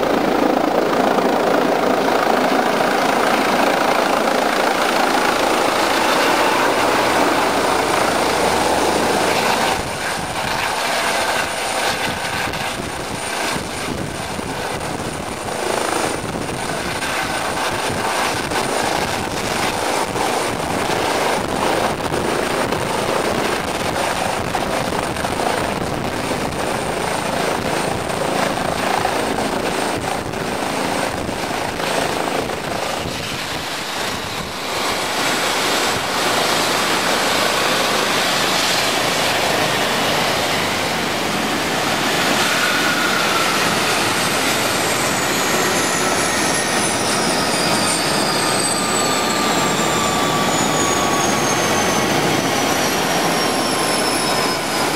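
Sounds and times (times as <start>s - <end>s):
helicopter rotor noise: 0.0s - 54.9s
steady high whine: 0.0s - 54.9s.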